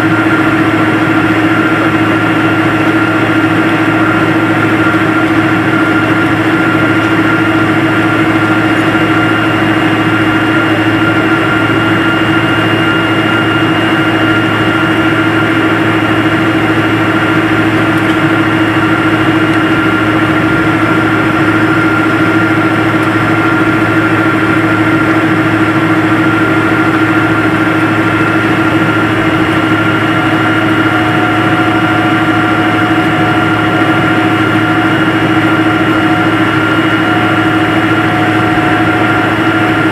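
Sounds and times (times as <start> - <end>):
jet engines humming in cabin: 0.0 - 39.9.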